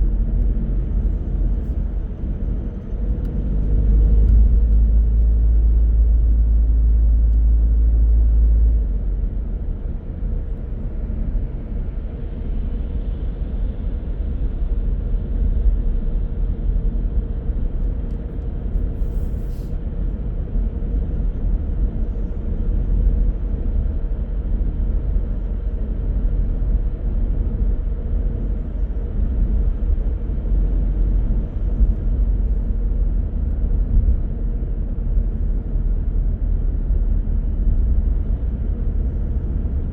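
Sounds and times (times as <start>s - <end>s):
car engine hum: 0.0s - 12.8s, 16.9s - 39.9s
road and tyre noise: 0.0s - 39.9s.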